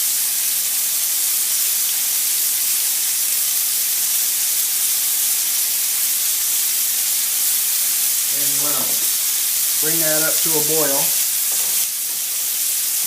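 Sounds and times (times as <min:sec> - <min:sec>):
wine sizzling in hot pan: 0:00.0 - 0:13.0.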